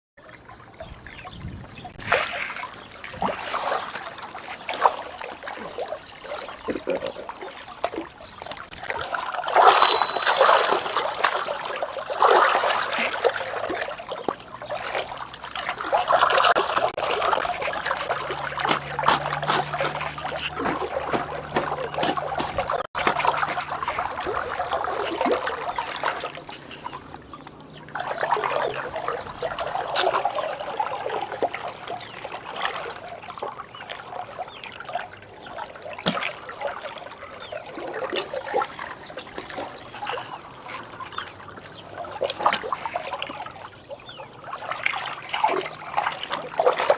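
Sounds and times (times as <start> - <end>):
stream water trickling and splashing: 0.2 - 46.9.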